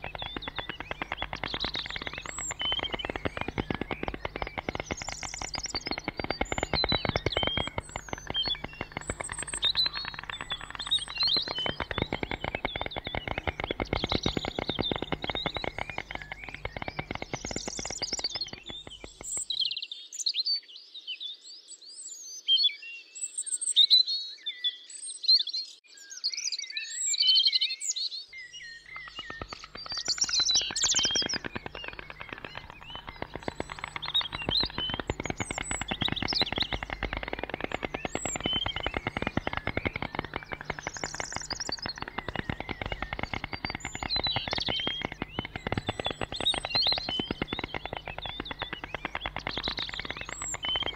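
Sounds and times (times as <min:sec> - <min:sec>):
low hum: 0:00.0 - 0:19.5, 0:28.9 - 0:50.9
rapid rattle of clicks: 0:00.0 - 0:19.6, 0:28.8 - 0:50.9
small birds chirping: 0:00.0 - 0:19.8, 0:28.4 - 0:50.9.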